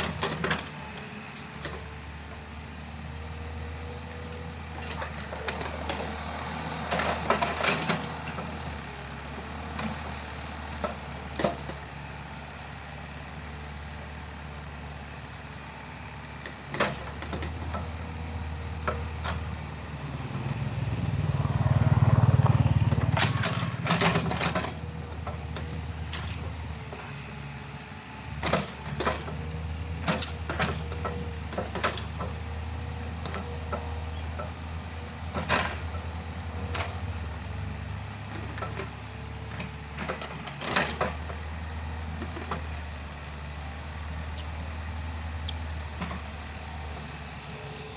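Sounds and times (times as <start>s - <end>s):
excavator engine running: 0.0s - 47.9s.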